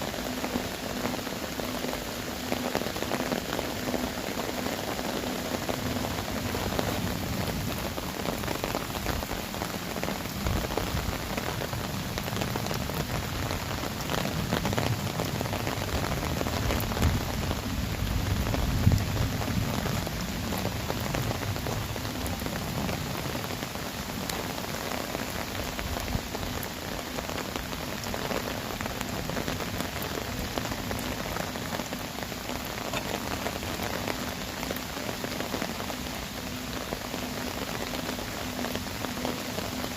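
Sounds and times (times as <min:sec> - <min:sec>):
heavy rain on crock jars: 0:00.0 - 0:39.9.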